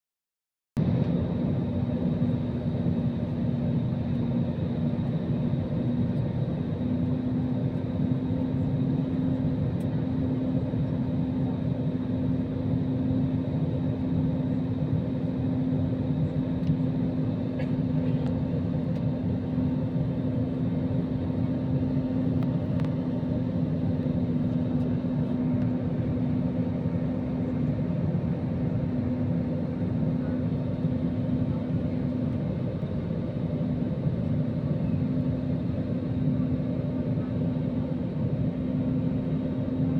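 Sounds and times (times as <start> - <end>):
aircraft engine drone: 0.8 - 39.9.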